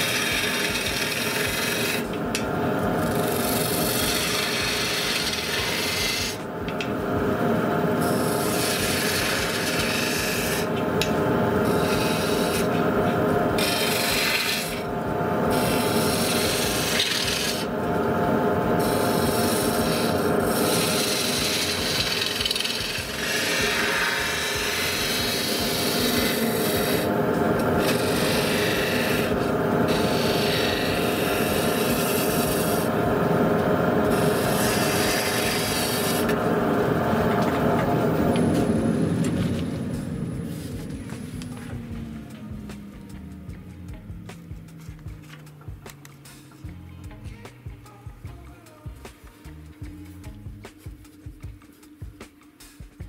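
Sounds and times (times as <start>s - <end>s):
gouge cutting spinning wood: 0.0s - 44.6s
lathe motor hum: 0.0s - 46.0s.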